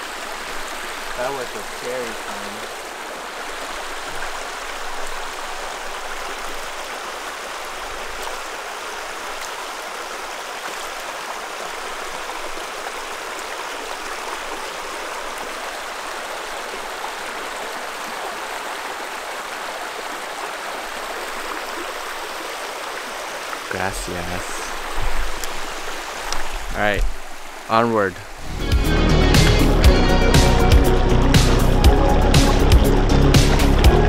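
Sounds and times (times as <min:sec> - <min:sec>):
creek rushing over rocks: 0:00.0 - 0:34.0.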